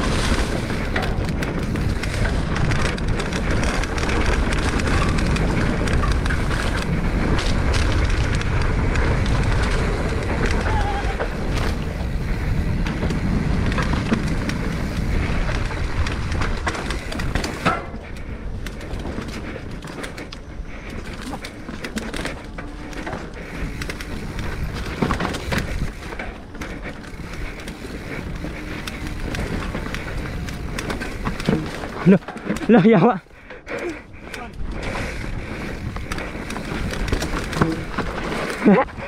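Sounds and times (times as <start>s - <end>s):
wind rumble on microphone: 0.0s - 32.5s, 33.4s - 39.0s
bike rattling clicks and knocks: 0.0s - 39.0s
bike tyres rolling on dirt: 0.0s - 39.0s.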